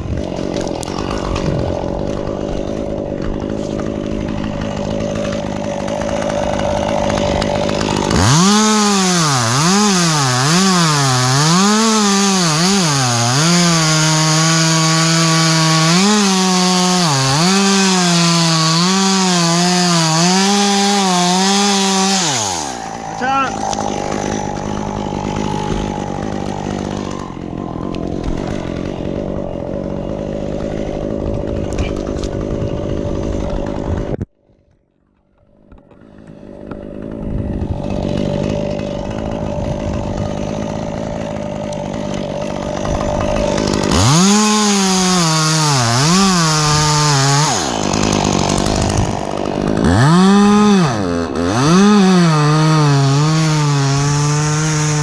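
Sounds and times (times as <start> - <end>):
chainsaw engine revving: 0.0 - 34.2, 35.4 - 55.0.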